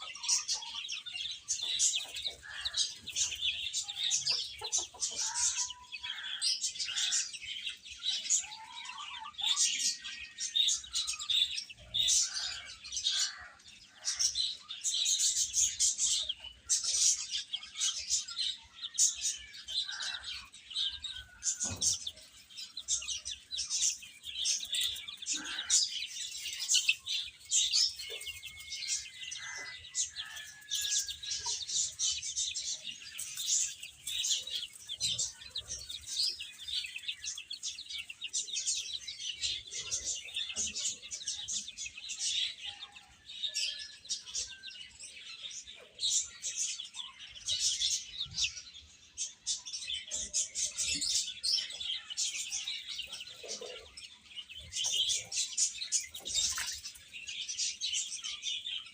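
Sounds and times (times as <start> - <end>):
baby chicks peeping: 0.0 - 58.9.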